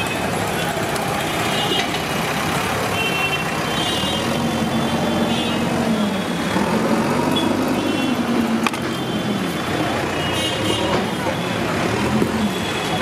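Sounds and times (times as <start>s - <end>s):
roadside traffic: 0.0s - 13.0s.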